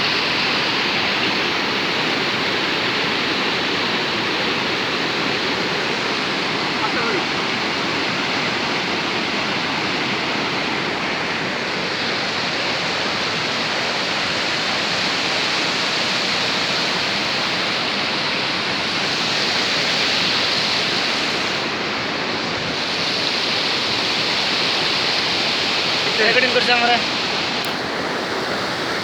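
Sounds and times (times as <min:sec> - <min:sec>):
flowing water rushing: 0:00.0 - 0:29.0.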